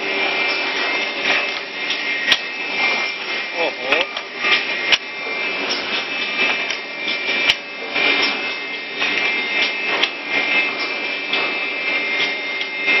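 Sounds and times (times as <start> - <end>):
drilling machine high whine: 0.0 - 13.0.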